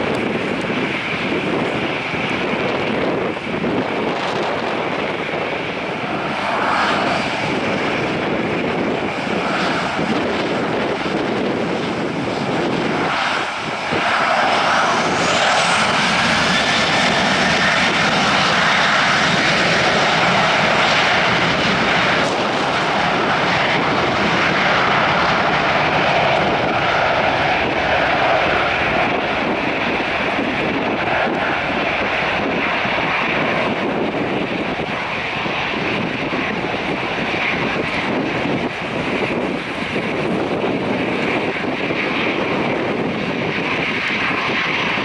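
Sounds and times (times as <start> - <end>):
jet engines spooling up: 0.0 - 45.0.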